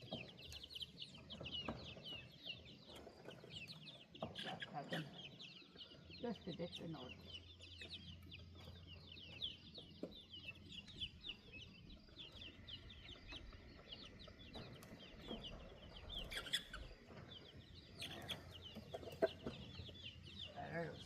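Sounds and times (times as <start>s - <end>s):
baby chicks peeping: 0.0s - 21.0s.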